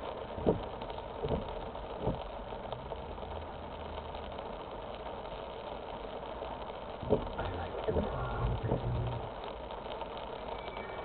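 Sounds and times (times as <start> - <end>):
car engine idling: 0.0 - 9.9
light hiss: 0.0 - 11.0.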